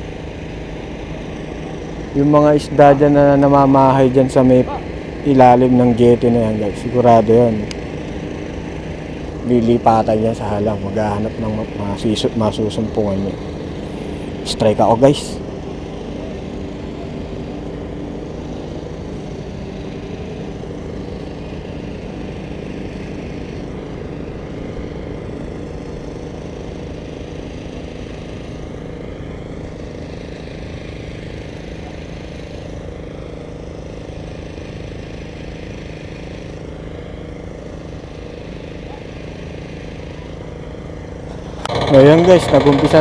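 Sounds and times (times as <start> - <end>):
water pump engine humming: 0.0 - 43.0.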